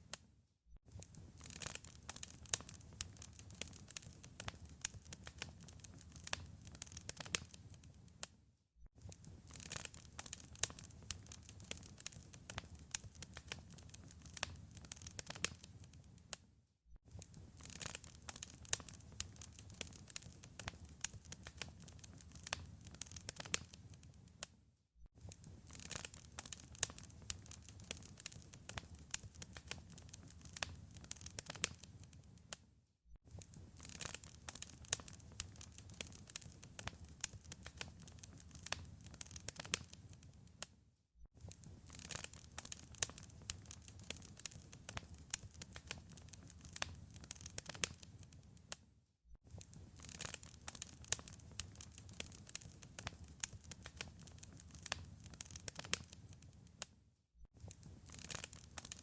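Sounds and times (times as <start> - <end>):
wood fire crackling: 0.9 - 8.3, 9.0 - 16.4, 17.1 - 24.4, 25.2 - 32.6, 33.3 - 40.5, 41.4 - 48.8, 49.5 - 56.8, 57.6 - 59.0.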